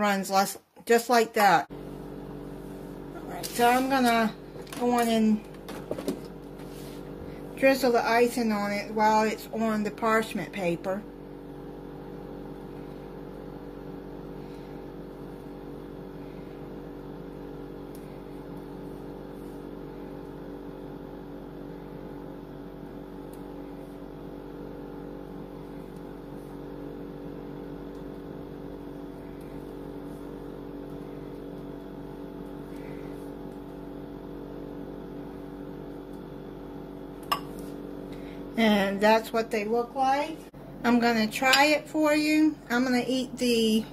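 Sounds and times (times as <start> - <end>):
steady machine hum: 0.0 - 43.9.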